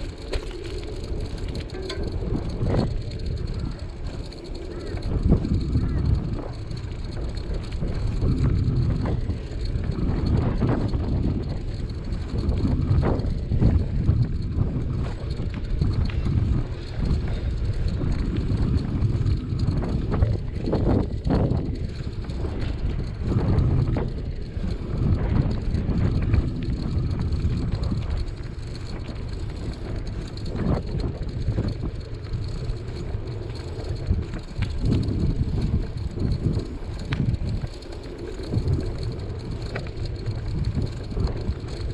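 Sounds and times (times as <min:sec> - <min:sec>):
tyres rolling on asphalt: 0:00.0 - 0:41.9
wind buffeting microphone: 0:00.0 - 0:41.9.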